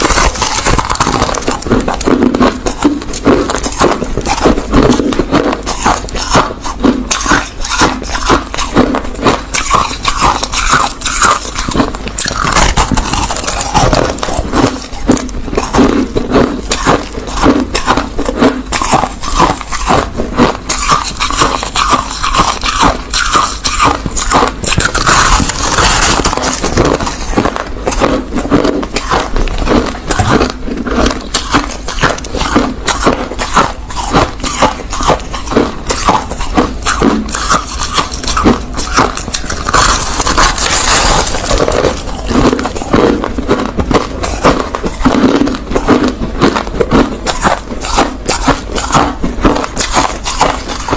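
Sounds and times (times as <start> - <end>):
crushed ice being chewed: 0.0 - 50.9.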